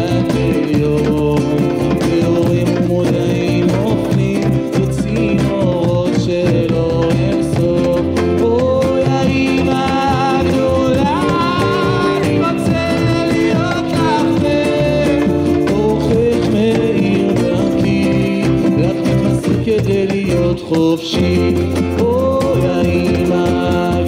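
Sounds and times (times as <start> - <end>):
acoustic guitar strumming: 0.0 - 24.0
person singing: 0.0 - 24.0.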